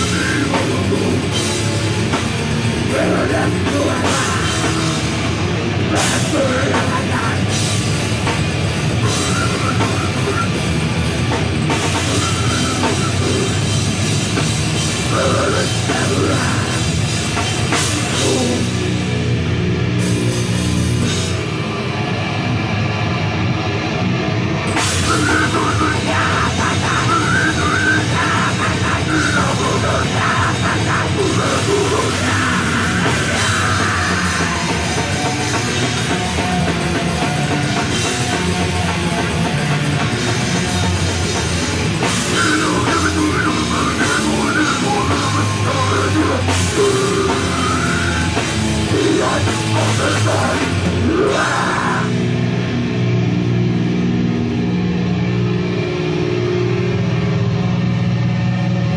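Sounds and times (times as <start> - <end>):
heavy metal band playing: 0.0 - 58.9.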